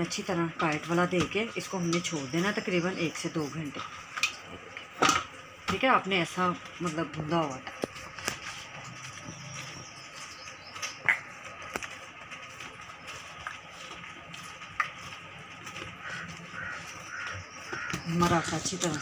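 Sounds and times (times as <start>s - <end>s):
hands kneading dough: 0.0s - 19.0s.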